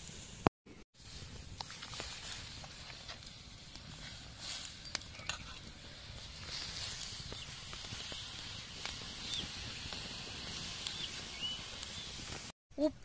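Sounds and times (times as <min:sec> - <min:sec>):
pot of water boiling: 0:01.0 - 0:12.6.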